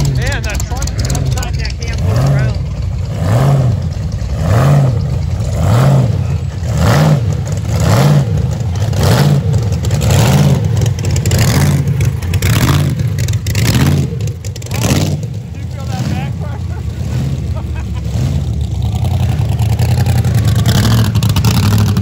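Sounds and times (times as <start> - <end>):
lumpy idling engine: 0.0 - 22.0.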